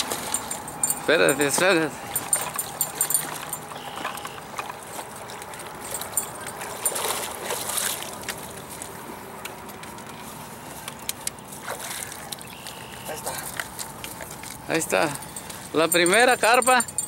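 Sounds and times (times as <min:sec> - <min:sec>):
fish thrashing and splashing: 0:00.0 - 0:15.7.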